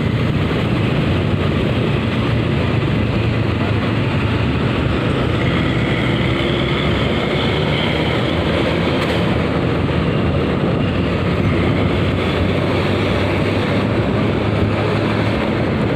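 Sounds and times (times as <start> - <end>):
bus engine hum: 0.0 - 15.9
road noise of traffic: 0.0 - 15.9.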